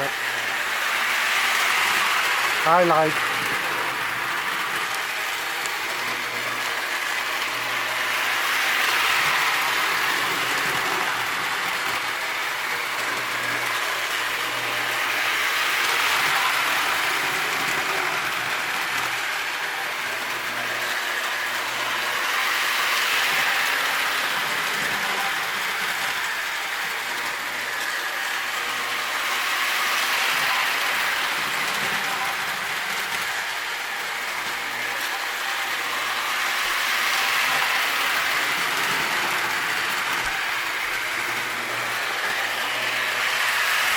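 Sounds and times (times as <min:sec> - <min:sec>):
toy train whirring clatter on rails: 0:00.0 - 0:43.9.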